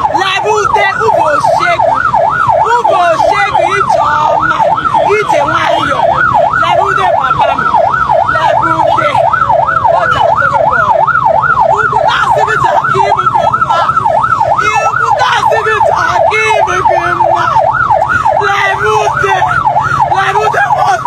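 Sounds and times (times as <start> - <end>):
electronic siren yelping: 0.0 - 21.0.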